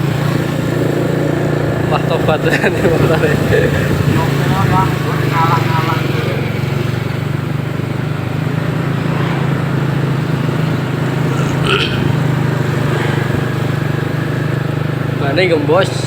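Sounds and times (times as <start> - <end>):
motorcycle engine droning: 0.0 - 16.0.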